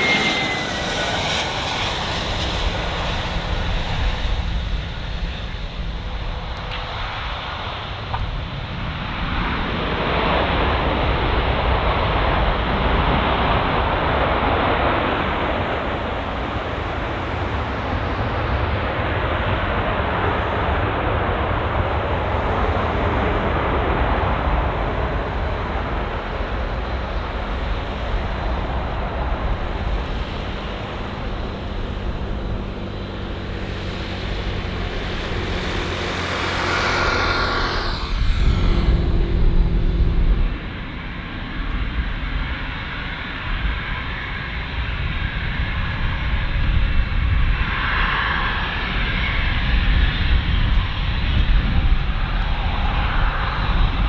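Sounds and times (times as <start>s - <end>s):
jet engine whine: 0.0s - 54.0s
jet engines rushing: 0.0s - 54.0s.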